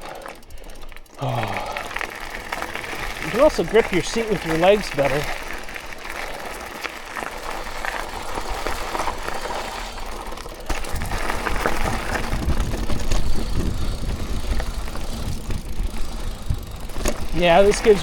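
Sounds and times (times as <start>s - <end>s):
bike rattles and clicks: 0.0s - 18.0s
bike tyre noise on dirt: 0.0s - 18.0s.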